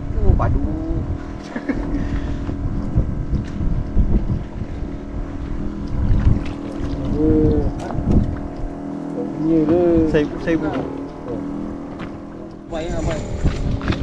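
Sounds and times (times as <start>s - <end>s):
boat motor hum: 0.0s - 14.0s
wind buffeting microphone: 0.0s - 14.0s.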